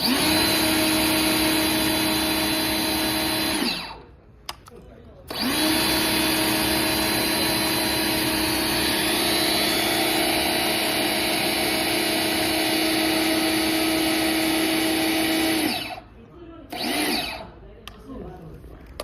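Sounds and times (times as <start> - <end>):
pressure washer motor humming: 0.0 - 4.1, 5.3 - 17.6.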